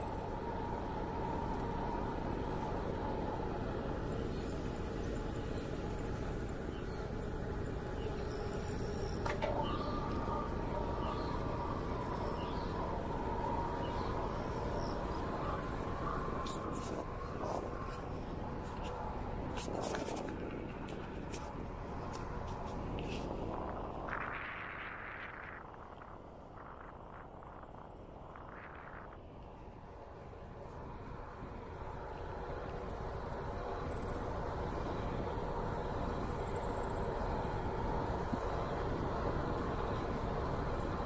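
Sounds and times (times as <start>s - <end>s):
insects trilling: 0.0s - 29.8s, 30.7s - 41.0s
bicycle tyres on asphalt: 0.0s - 41.0s
wind rush on microphone: 0.0s - 41.0s.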